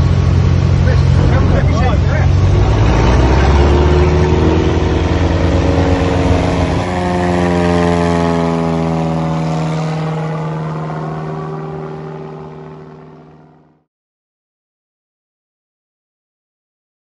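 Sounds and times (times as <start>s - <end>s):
propeller aircraft flying past: 0.0s - 13.9s.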